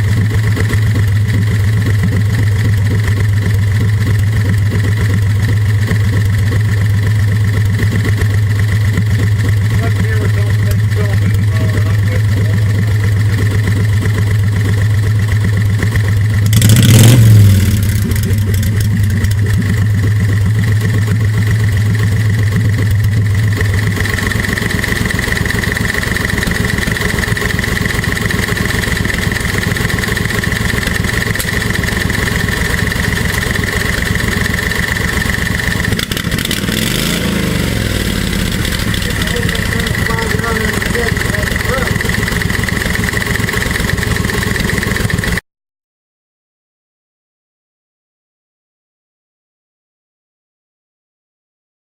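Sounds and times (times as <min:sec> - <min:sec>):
golf cart engine idling and revving: 0:00.0 - 0:45.4.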